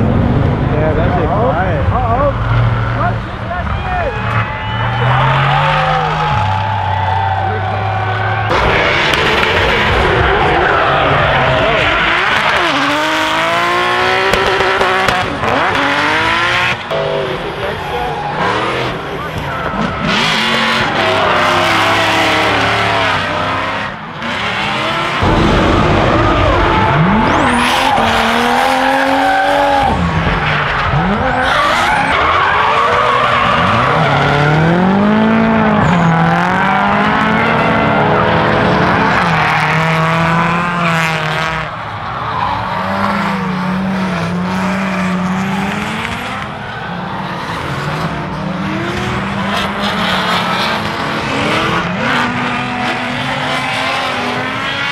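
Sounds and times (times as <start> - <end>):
car engines revving: 0.0 - 54.9
tyres squealing and skidding: 2.0 - 54.9.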